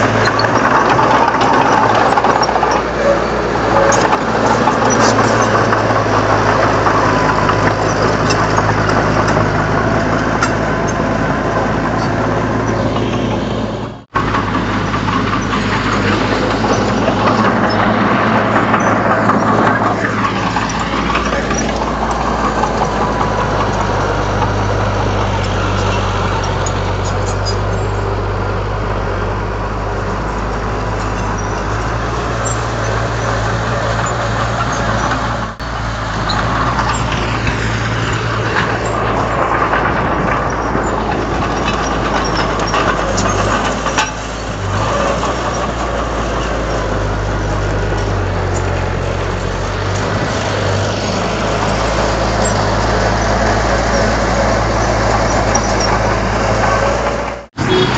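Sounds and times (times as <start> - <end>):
bulldozer diesel engine droning: 0.0 - 57.9.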